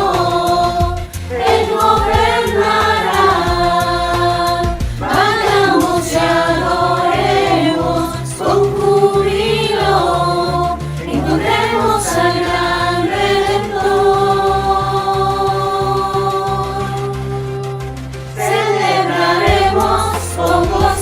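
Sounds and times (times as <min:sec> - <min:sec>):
steady backing track: 0:00.0 - 0:21.0
voices singing held notes: 0:00.0 - 0:21.0.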